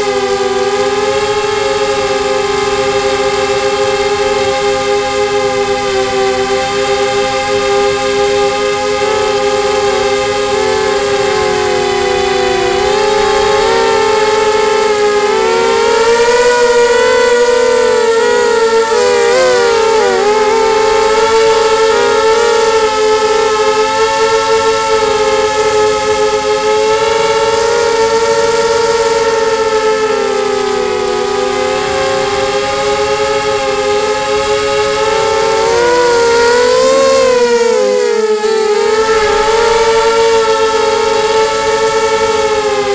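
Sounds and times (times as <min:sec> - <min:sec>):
quadcopter motors whining: 0:00.0 - 0:42.9.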